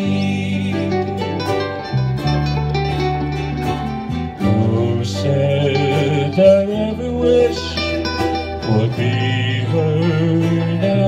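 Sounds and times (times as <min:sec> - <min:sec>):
low bass notes: 0:00.0 - 0:11.0
ukuleles and guitars playing: 0:00.0 - 0:11.0.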